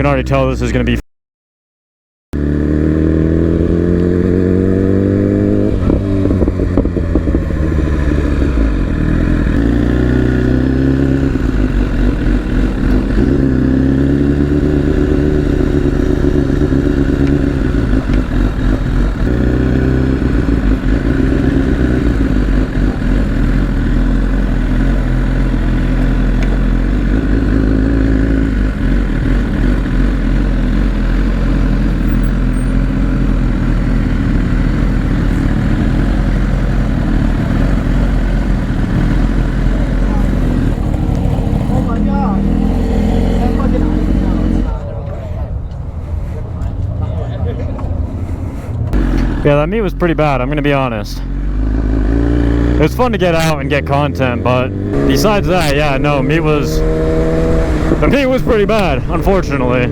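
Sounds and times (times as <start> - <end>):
motorcycle engine accelerating: 2.4 - 59.9.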